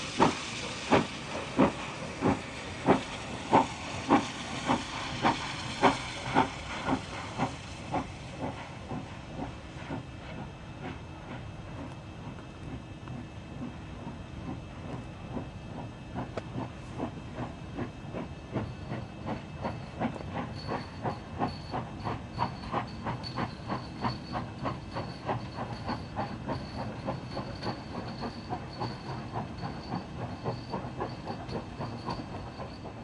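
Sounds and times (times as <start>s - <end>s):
steam locomotive exhaust beats: 0.0s - 33.0s.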